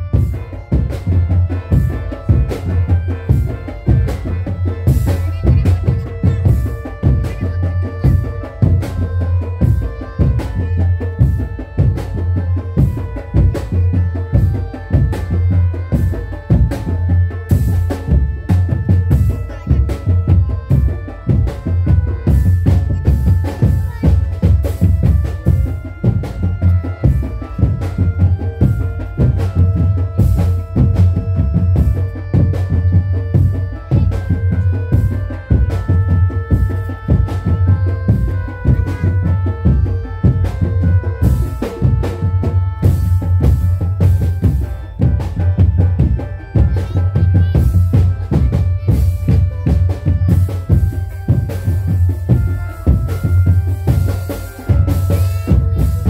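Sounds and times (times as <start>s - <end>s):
drum-driven music with deep bass: 0.0s - 56.0s.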